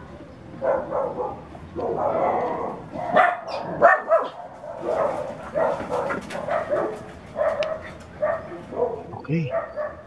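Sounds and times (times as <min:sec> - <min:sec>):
dog barking: 0:00.6 - 0:02.4, 0:03.0 - 0:10.0.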